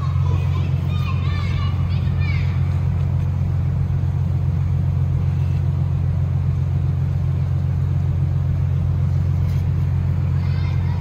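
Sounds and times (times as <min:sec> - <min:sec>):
low mechanical hum of ship machinery: 0:00.0 - 0:11.0.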